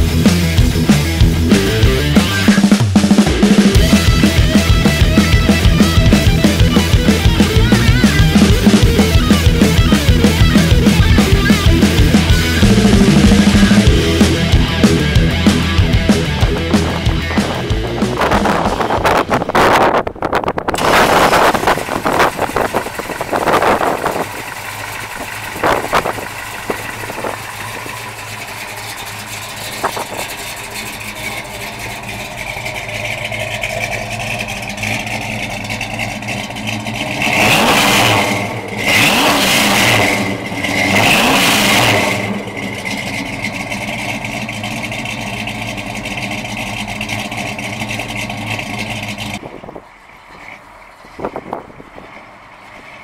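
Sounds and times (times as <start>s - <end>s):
car engine revving and idling: 0.0s - 53.0s.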